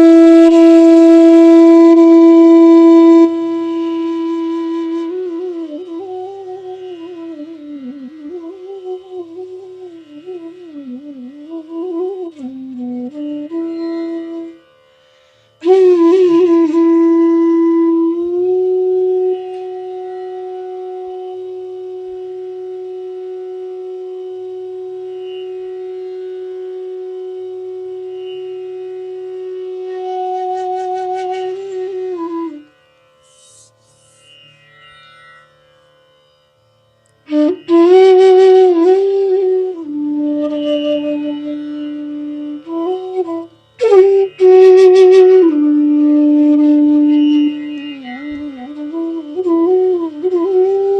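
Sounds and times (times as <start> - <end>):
bamboo flute melody: 0.0 - 35.5, 37.2 - 50.9.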